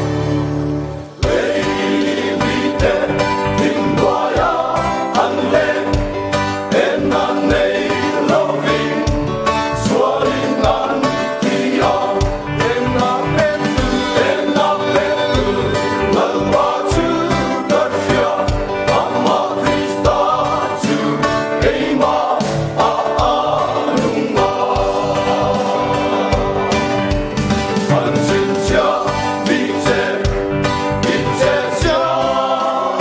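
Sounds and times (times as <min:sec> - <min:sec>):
instrumental accompaniment with beat: 0:00.0 - 0:33.0
men's choir singing: 0:01.2 - 0:33.0.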